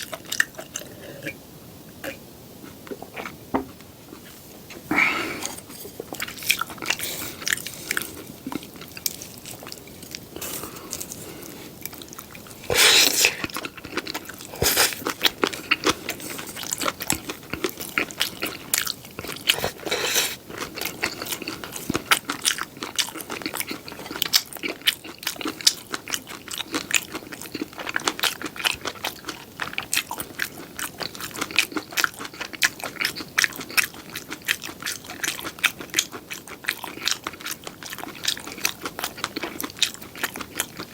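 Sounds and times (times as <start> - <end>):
crunching while eating: 2.0 - 40.9
wet chewing clicks: 5.4 - 40.9.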